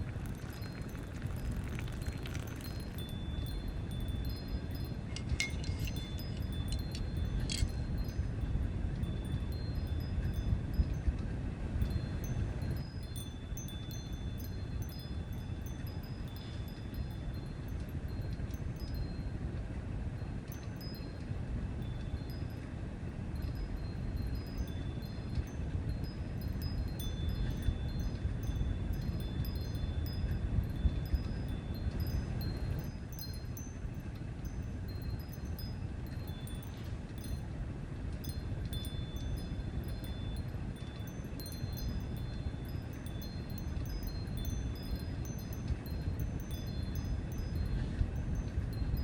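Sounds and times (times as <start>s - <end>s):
low rumbling background noise: 0.0s - 49.0s.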